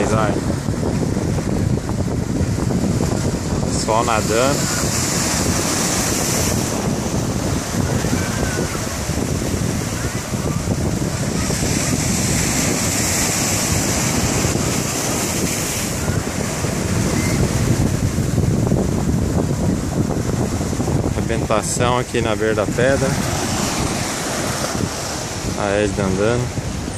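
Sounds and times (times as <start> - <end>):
ocean surf breaking: 0.0 - 26.9
wind buffeting microphone: 0.0 - 26.9.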